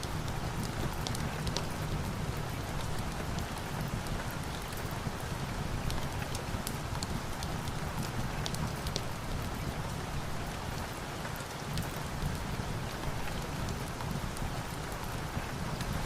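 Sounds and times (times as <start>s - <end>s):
rain hiss: 0.0s - 16.0s
wood fire crackling: 0.0s - 16.0s.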